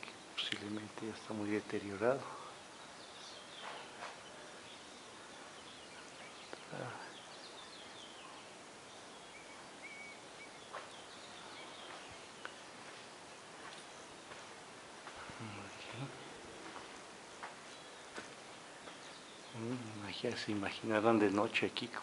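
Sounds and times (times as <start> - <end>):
bird chirps: 0.0 - 14.6, 15.2 - 20.8
faint steady hiss: 0.0 - 22.0.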